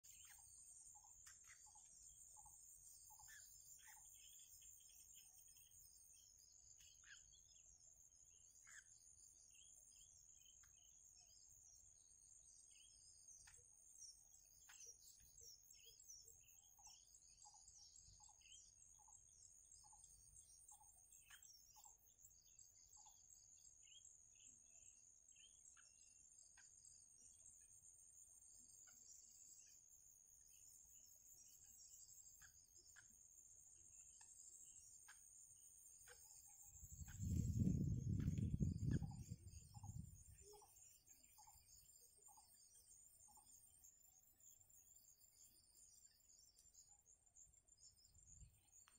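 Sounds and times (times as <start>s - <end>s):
bird chirps: 0.0s - 48.9s.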